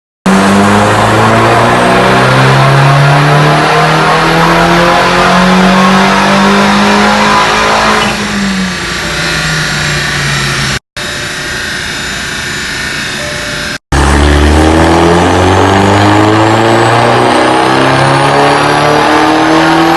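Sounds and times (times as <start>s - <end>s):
car engine accelerating hard: 0.3s - 10.8s, 13.9s - 19.9s.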